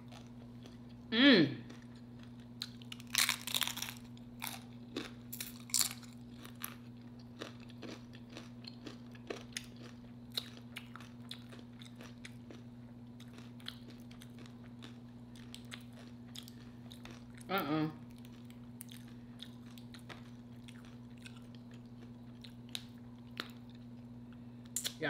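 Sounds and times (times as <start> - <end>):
chewing crunchy chips: 0.0 - 25.0.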